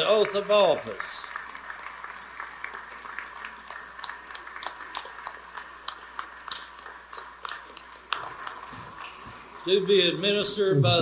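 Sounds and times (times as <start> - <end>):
sparse applause: 0.0 - 11.0.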